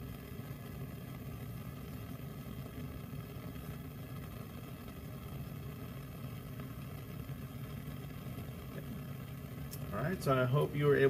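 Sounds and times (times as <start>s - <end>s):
burner flame roaring: 0.0s - 11.0s.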